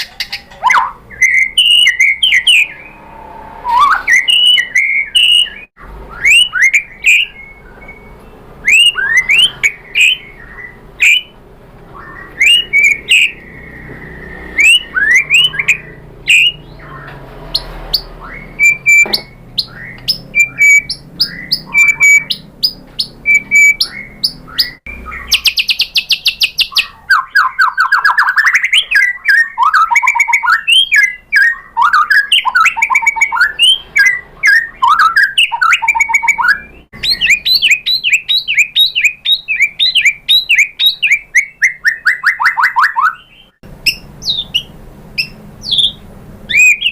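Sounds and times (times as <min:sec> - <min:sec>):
bird singing whistled notes: 0:00.4 - 0:46.9.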